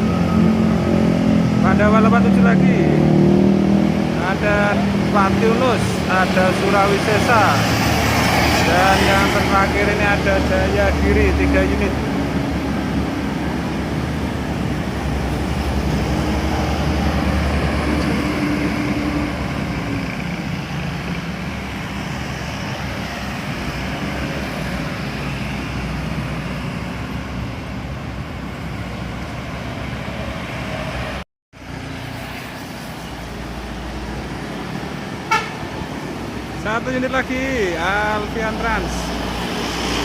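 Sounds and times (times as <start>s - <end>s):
buses driving past: 0.0s - 40.0s
traffic noise: 0.0s - 40.0s.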